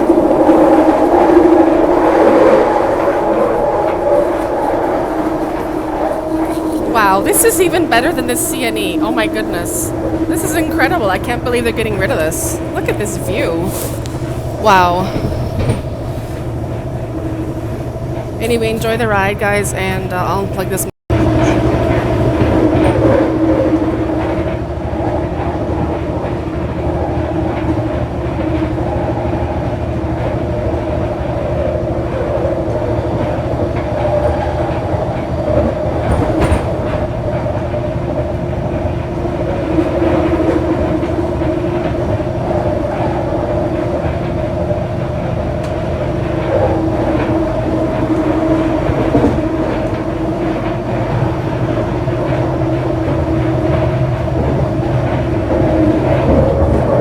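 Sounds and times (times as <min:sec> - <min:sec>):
train wheels running on track: 0:00.0 - 0:57.0.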